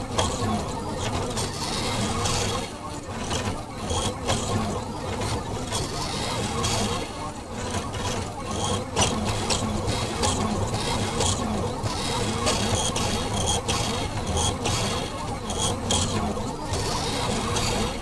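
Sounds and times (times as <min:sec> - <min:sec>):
stepper motors whirring: 0:00.0 - 0:18.0.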